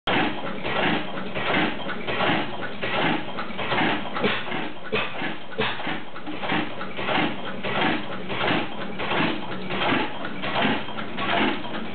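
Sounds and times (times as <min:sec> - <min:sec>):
single-cylinder engine running: 0:00.1 - 0:11.9.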